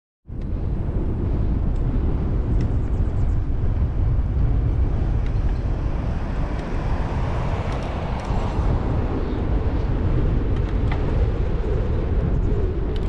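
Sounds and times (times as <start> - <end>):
wind buffeting microphone: 0.3 - 13.0
tyre noise on asphalt: 0.6 - 13.0.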